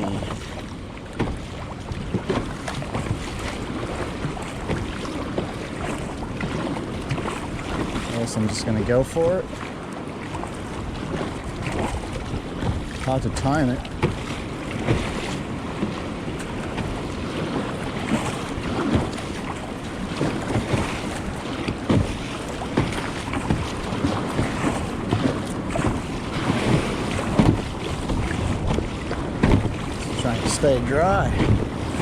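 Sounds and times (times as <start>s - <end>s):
small surf waves breaking: 0.0s - 32.0s
water splashing around kayak: 0.0s - 32.0s
wind rumbling on microphone: 0.0s - 32.0s.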